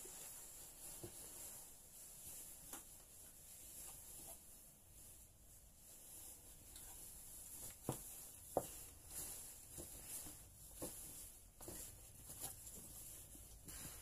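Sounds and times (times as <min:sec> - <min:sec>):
curtain fabric rustling: 0:00.0 - 0:14.0.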